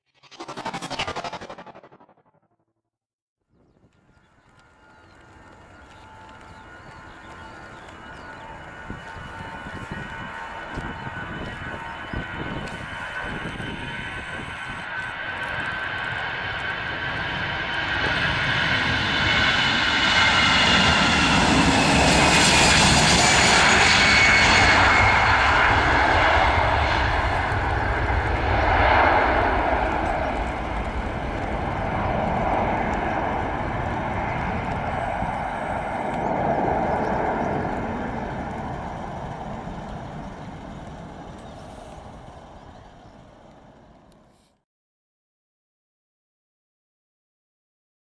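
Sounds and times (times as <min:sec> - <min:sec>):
jet engines at takeoff: 0:00.1 - 0:02.6, 0:03.6 - 0:44.6.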